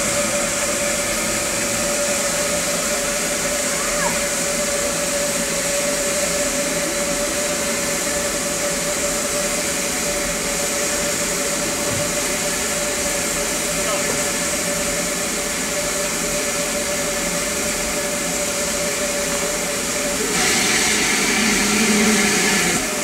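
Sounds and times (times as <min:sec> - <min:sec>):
steam hissing: 0:00.0 - 0:23.0.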